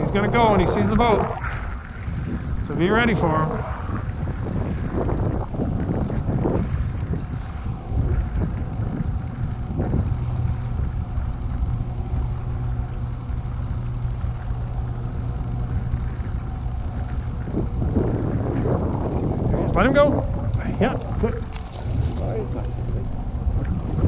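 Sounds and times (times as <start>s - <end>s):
boat motor humming: 0.0s - 24.0s
wind: 0.0s - 24.0s.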